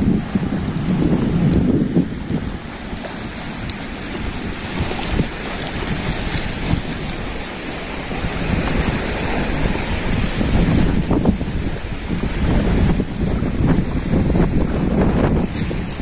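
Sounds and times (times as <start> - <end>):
small waves washing in: 0.0 - 16.0
wind buffeting microphone: 0.0 - 16.0.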